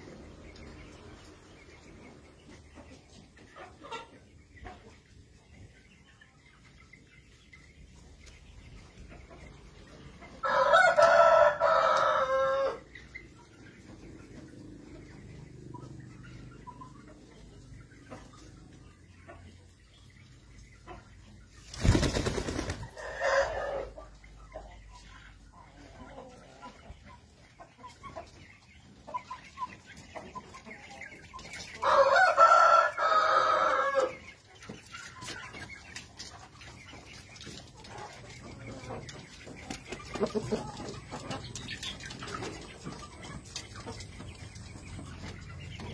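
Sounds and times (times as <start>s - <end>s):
chickens clucking softly: 0.0s - 45.9s.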